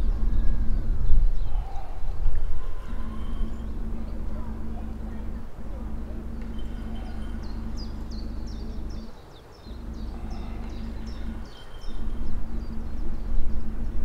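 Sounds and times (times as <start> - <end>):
bird chirping: 0.0 - 14.0
steady low hum: 0.0 - 14.0.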